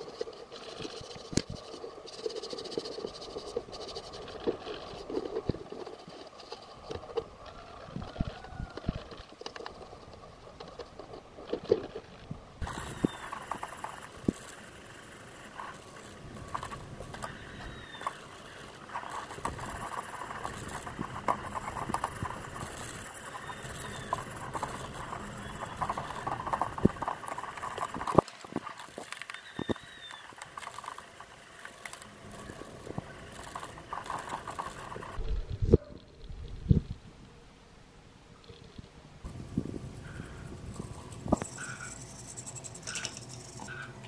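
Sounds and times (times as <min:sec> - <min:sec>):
scraping and rubbing: 0:00.0 - 0:36.3, 0:39.2 - 0:44.0.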